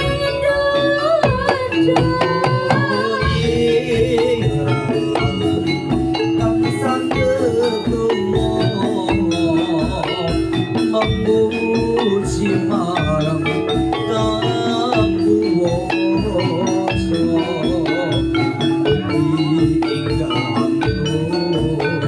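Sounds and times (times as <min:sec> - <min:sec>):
gamelan music over sound system: 0:00.0 - 0:22.0
metallophones ringing: 0:00.0 - 0:22.0.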